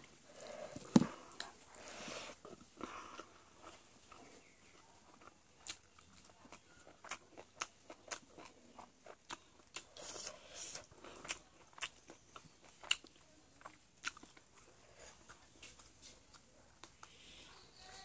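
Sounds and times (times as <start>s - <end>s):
chewing and crunching chicken: 0.3s - 18.0s.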